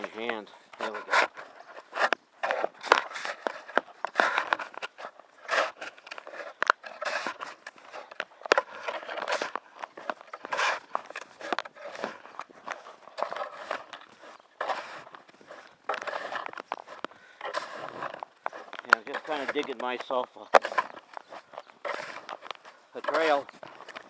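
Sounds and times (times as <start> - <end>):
footsteps crunching in snow: 0.0 - 24.0
snow shovel scraping snow: 0.0 - 24.0.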